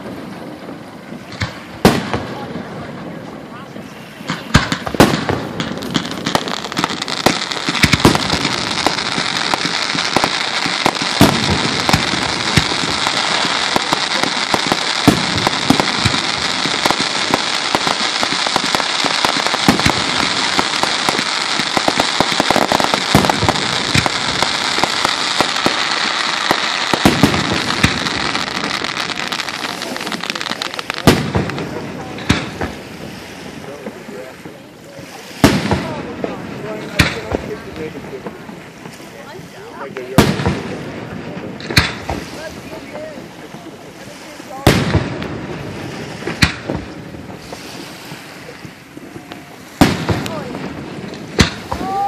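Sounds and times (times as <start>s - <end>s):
fireworks crackling and banging: 0.0s - 52.0s.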